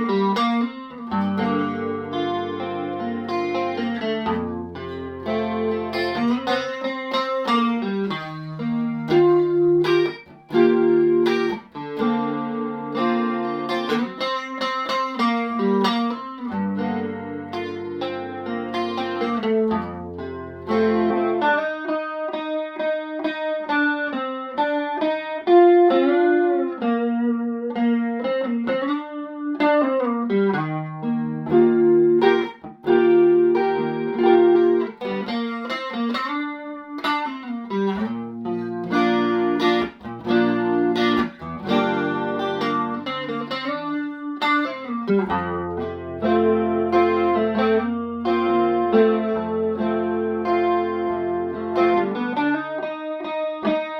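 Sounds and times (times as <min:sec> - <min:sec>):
electric guitar chords and lead: 0:00.0 - 0:53.9.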